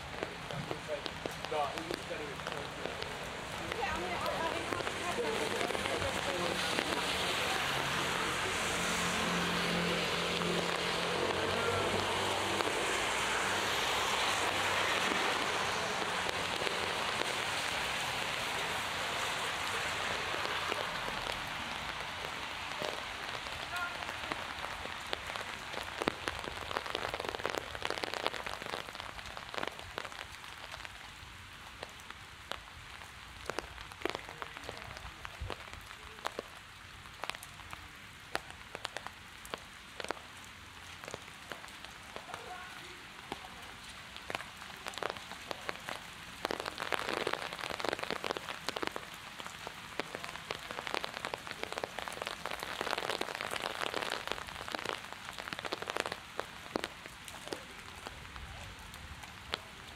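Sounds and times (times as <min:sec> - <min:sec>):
close raindrops ticking: 0:00.0 - 0:59.9
heavy rain on hard surfaces: 0:00.0 - 0:59.9.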